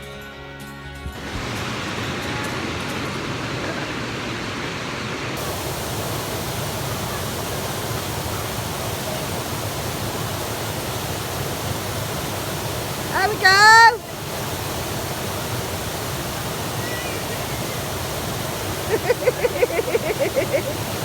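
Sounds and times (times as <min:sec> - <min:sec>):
waterfall rushing: 0:01.1 - 0:21.0.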